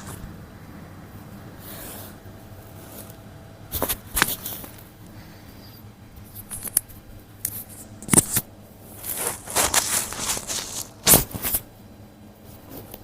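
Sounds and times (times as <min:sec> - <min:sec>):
rustling and handling noises: 0:00.0 - 0:13.0.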